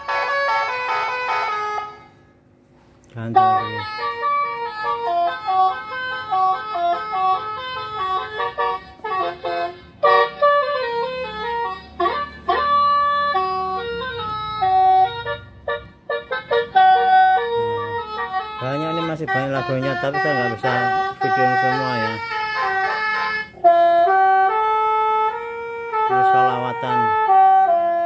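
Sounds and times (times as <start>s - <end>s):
horn loudspeaker melody: 0.0s - 2.2s, 3.2s - 28.0s.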